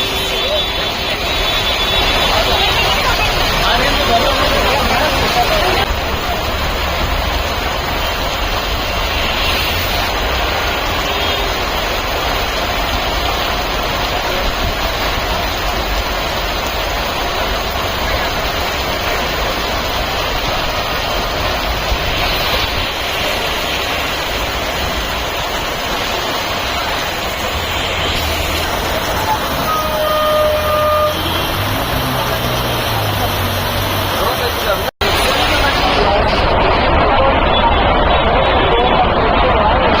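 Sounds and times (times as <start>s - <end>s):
heavy rain and running water: 0.0s - 40.0s.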